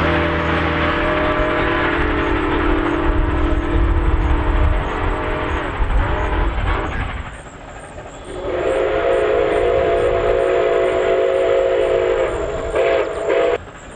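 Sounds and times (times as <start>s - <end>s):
steam whistle blast: 0.0s - 6.9s, 8.3s - 13.6s
train rumble: 0.0s - 13.9s.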